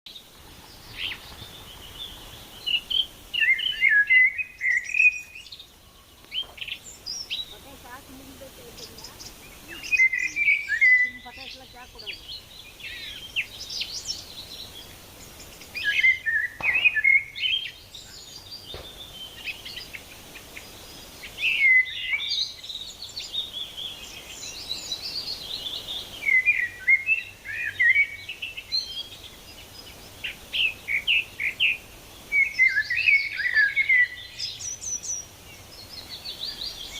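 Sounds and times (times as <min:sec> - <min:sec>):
faint background hiss: 0:00.1 - 0:36.9
songbird chirps and trills: 0:00.1 - 0:36.9.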